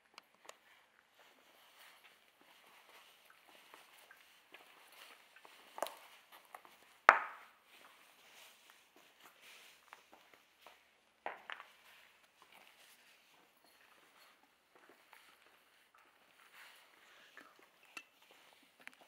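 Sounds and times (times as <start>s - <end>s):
footsteps crunching over rubble: 0.3s - 19.0s.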